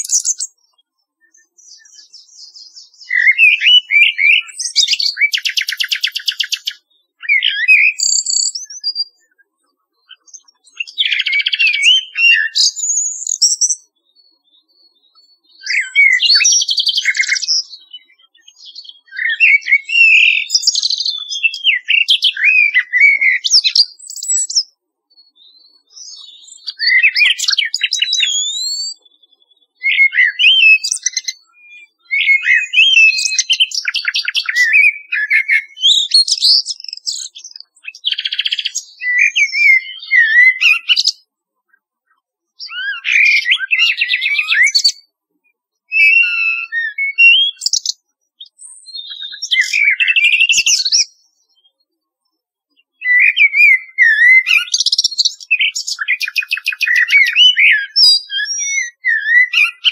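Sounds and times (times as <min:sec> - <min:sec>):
birds singing: 0:00.0 - 0:59.9.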